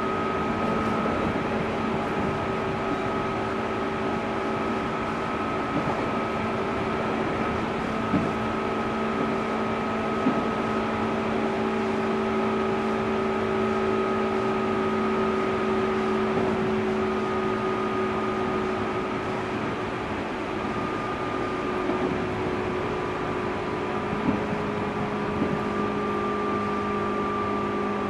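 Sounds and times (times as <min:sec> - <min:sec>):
steady motor drive tones: 0:00.0 - 0:28.0
train running noise: 0:00.0 - 0:28.0.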